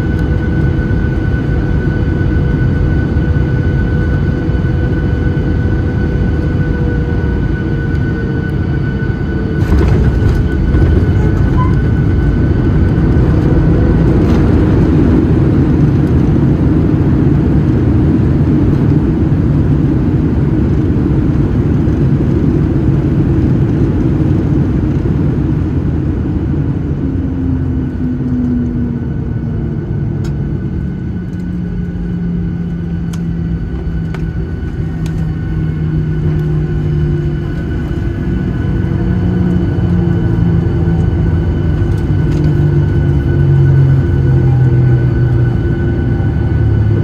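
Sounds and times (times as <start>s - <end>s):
rumble of wheels and engines: 0.0s - 47.0s.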